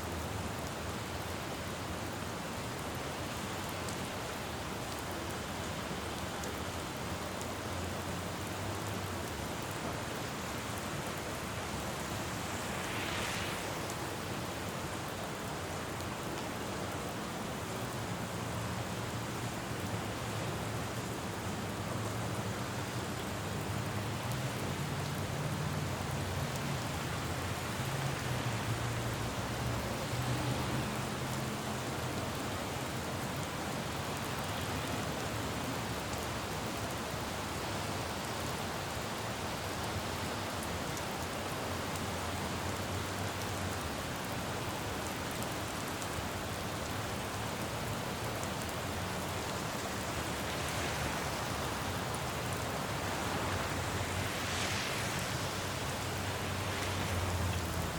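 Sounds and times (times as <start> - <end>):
low rumble of traffic: 0.0 - 57.9
rain falling on road: 0.0 - 57.9.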